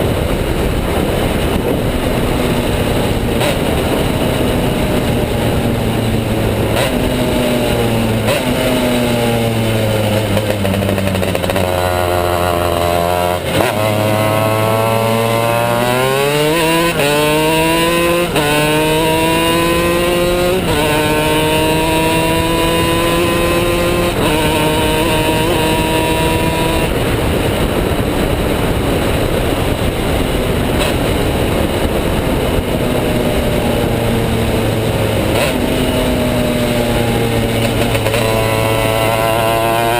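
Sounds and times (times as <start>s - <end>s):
kart engine revving through gears: 0.2s - 39.9s.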